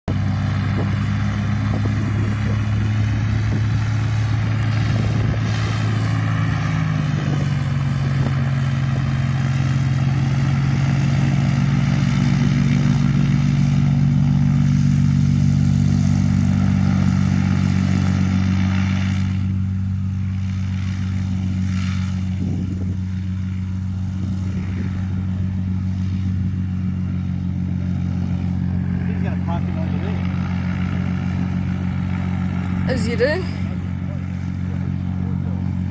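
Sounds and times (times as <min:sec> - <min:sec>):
floatplane engine and propeller drone: 0:00.0 - 0:35.9.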